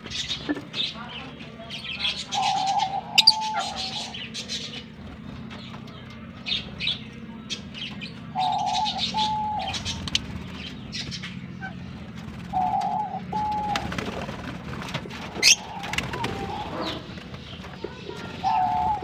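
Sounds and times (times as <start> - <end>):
flock of birds chattering: 0.0 - 19.0.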